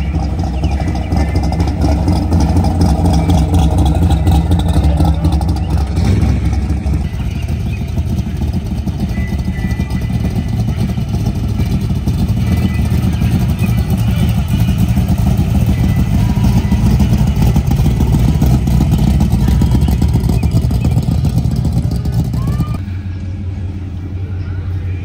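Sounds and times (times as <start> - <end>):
car engine rough rumble: 0.0 - 25.0.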